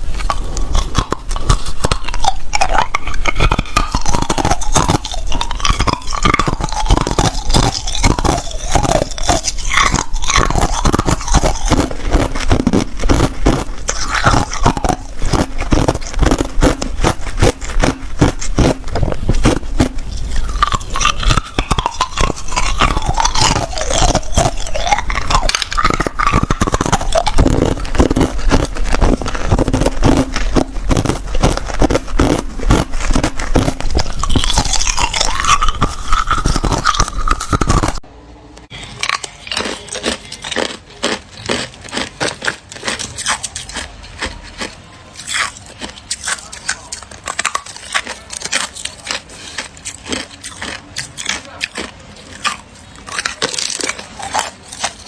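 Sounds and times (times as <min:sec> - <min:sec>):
ice crunching while chewed: 0:00.0 - 0:38.0, 0:38.8 - 0:55.0.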